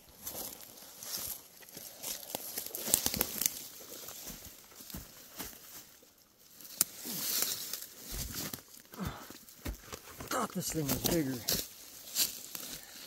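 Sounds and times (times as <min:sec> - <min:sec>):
footsteps in leaf litter: 0:00.0 - 0:08.8, 0:10.4 - 0:13.0.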